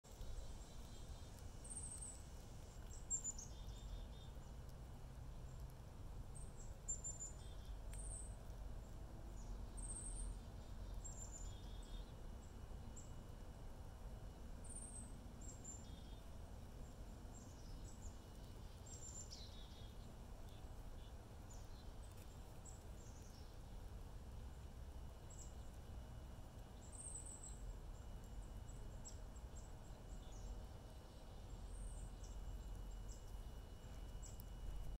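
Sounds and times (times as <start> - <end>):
low outdoor rumble: 0.0 - 34.9
small birds chirping: 0.0 - 34.9.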